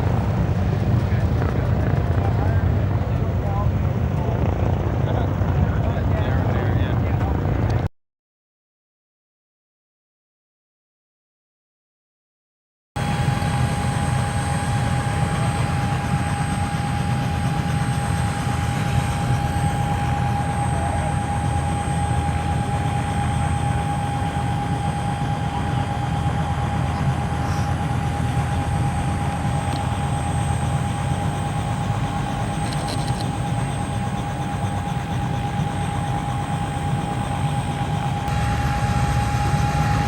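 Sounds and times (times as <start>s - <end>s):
engine rumble with whine: 0.0s - 7.9s, 13.0s - 40.0s.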